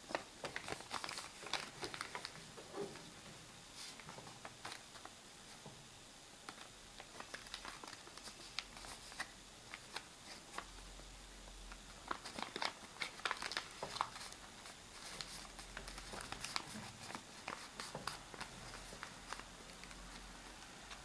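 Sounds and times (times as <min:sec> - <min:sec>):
paper crinkling as folded: 0:00.0 - 0:03.1, 0:03.7 - 0:05.6, 0:06.4 - 0:10.8, 0:11.7 - 0:21.0.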